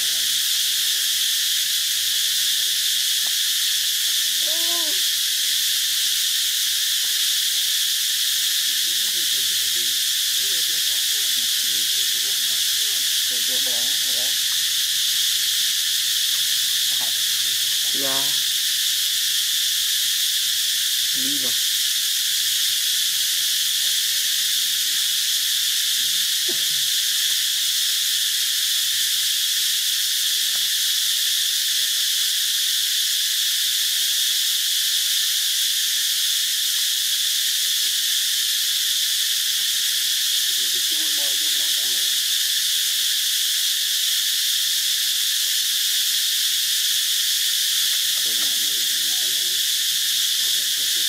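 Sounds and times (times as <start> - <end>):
high-pitched insect drone: 0.0 - 51.0.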